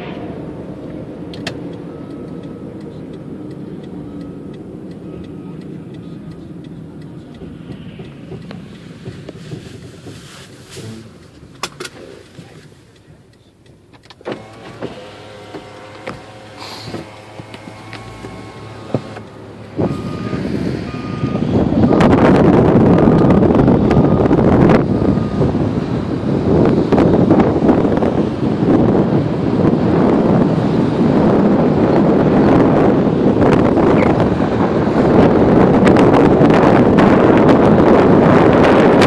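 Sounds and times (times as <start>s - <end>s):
car road noise from inside: 0.0s - 39.0s
wind rushing through open window: 0.0s - 39.0s.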